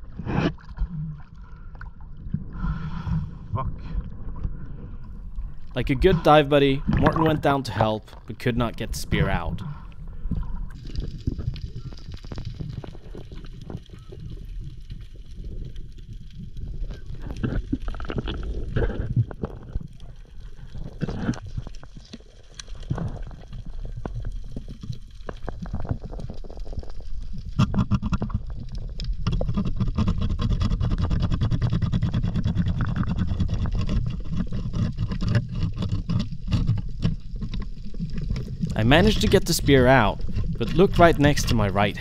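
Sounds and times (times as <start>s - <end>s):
underwater rumble of water: 0.0s - 42.0s.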